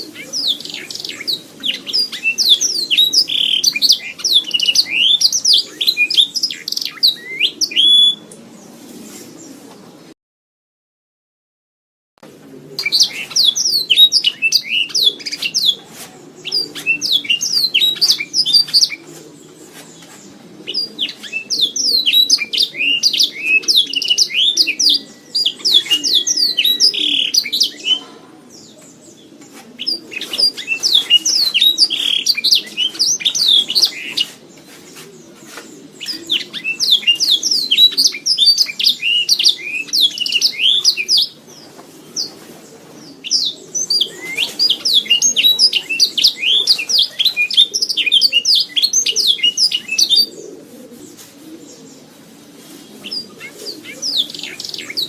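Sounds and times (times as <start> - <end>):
canary chirps and trills: 0.0 - 8.2, 12.8 - 52.0, 52.7 - 55.0.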